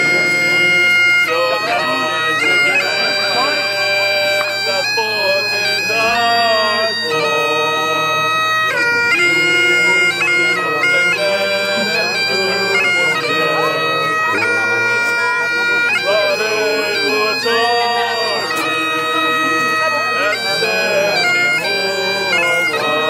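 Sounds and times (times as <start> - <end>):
man singing: 0.0 - 14.6, 16.0 - 23.0
bagpipes playing a tune: 0.0 - 23.0.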